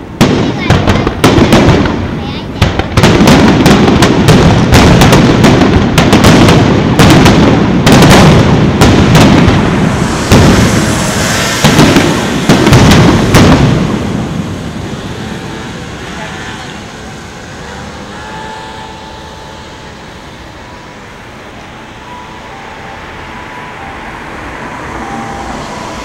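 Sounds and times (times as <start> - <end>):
continuous rumble: 0.0 - 26.0
firework shells bursting: 0.1 - 22.6.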